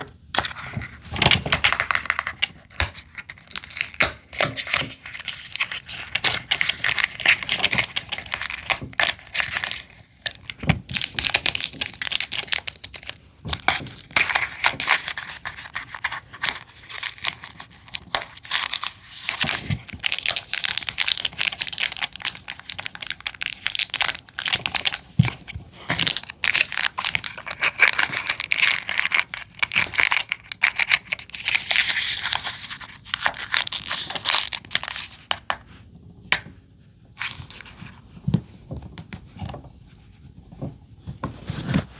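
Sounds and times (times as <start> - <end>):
plastic packaging crinkling and tearing: 0.4 - 35.4.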